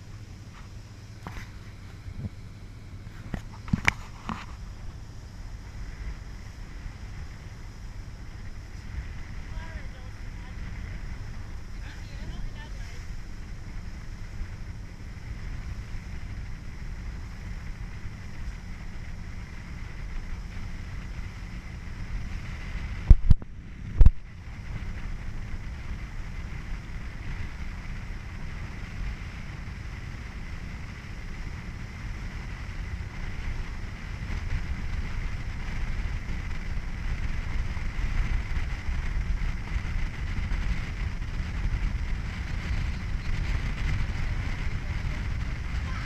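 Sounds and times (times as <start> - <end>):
boat motor rumbling: 0.0 - 46.0
wind on microphone: 0.0 - 46.0.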